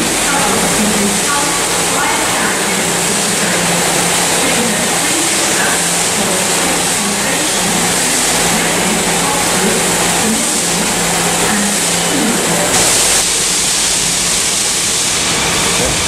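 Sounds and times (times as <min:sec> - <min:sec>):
air hiss: 0:00.0 - 0:16.0
diesel engine idling: 0:00.0 - 0:16.0.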